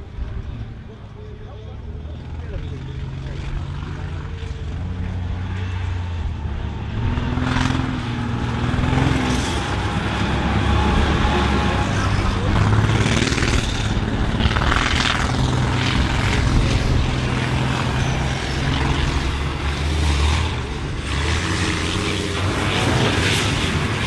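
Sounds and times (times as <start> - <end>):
diesel engines droning: 0.0 - 24.0.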